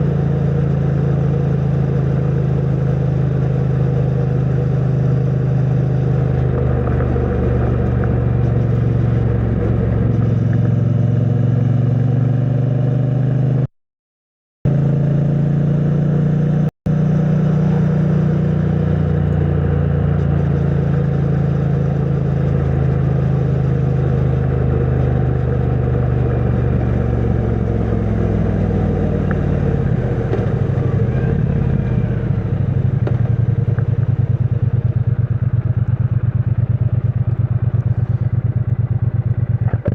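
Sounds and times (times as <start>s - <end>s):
motorcycle engine cruising: 0.0s - 13.7s, 14.7s - 39.9s.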